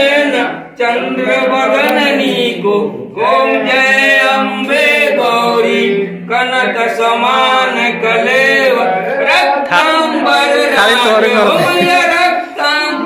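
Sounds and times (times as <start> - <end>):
voices singing a devotional chant: 0.0 - 13.0.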